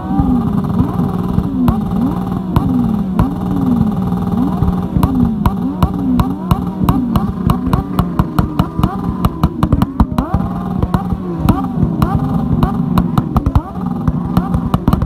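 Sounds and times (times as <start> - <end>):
exhaust pops and bangs: 0.0 - 15.0
motorcycle engines revving: 0.0 - 15.0.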